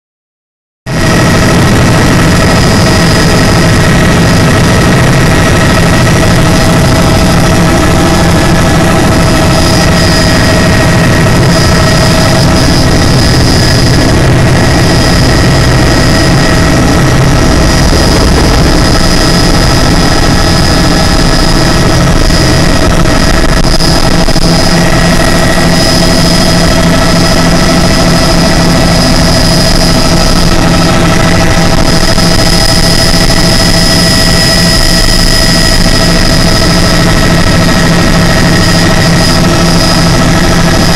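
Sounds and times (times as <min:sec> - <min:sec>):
helicopter rotor drone: 0:00.9 - 0:40.9
helicopter turbine whine: 0:00.9 - 0:40.9.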